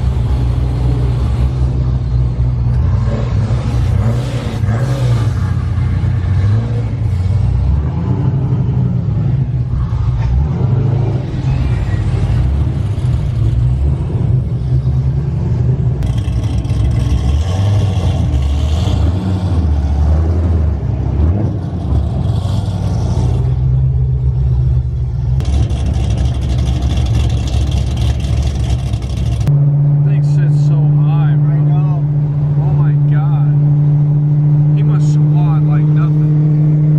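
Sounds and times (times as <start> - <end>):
vehicle engines revving: 0.0 - 36.9.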